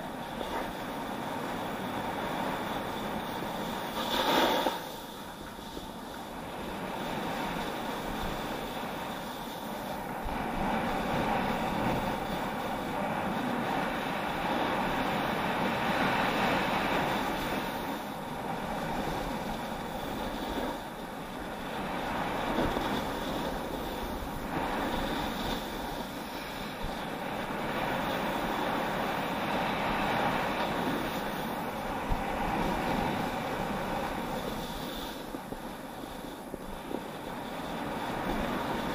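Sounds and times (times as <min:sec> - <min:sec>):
wind buffeting microphone: 0:00.0 - 0:38.9
skis scraping over snow: 0:01.8 - 0:38.9.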